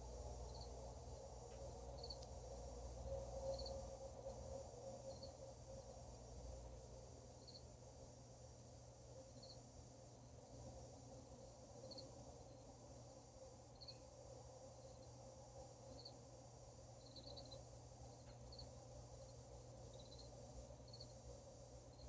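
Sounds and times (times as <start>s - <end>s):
faint low hum: 0.0s - 22.0s
insect chirping: 0.0s - 22.0s.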